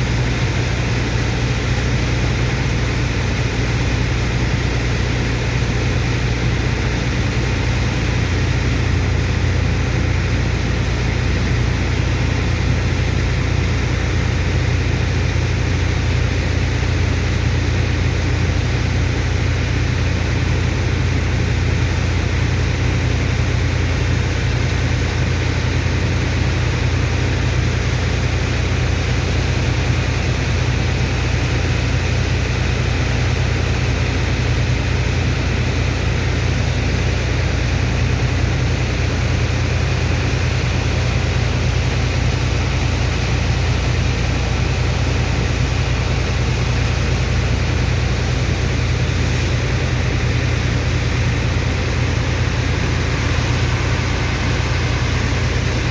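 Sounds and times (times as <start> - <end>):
engine deep drone: 0.0 - 55.9
water pump rushing: 0.1 - 55.9.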